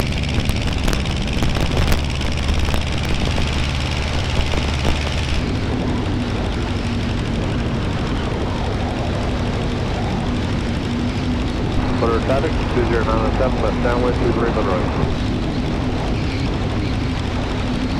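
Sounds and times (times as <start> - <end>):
airplane engine and propeller: 0.0 - 17.9
steady hum: 0.0 - 17.9.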